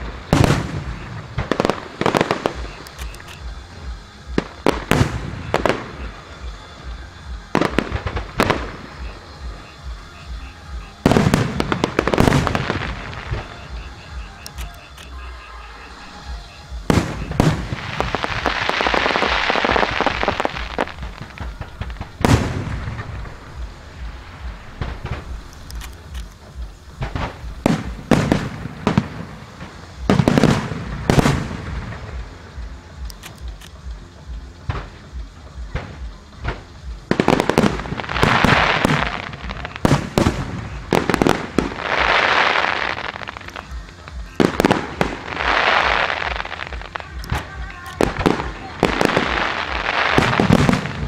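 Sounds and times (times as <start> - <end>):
fireworks bursting with bangs: 0.0 - 51.0
fireworks crackling hiss: 0.0 - 51.0.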